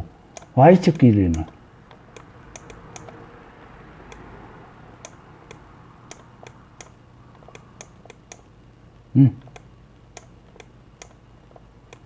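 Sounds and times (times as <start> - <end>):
low steady hum: 0.0 - 12.0
computer mouse clicking: 0.3 - 8.6, 9.4 - 12.0.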